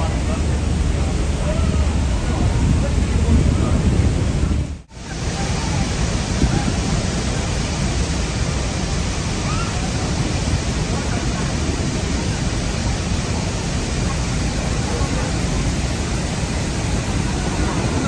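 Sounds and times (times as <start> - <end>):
river rushing: 0.0 - 18.0
waterfall roaring: 0.0 - 18.0.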